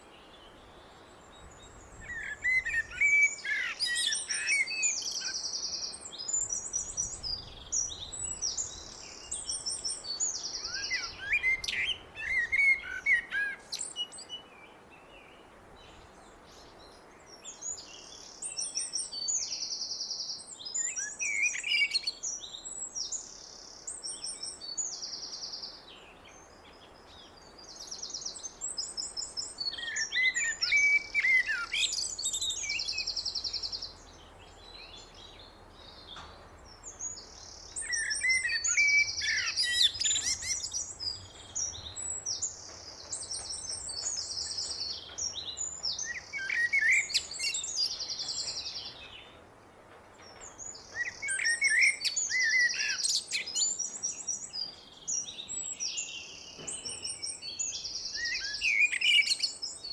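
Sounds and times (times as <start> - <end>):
blackbird singing: 0.0 - 49.4, 50.2 - 59.9.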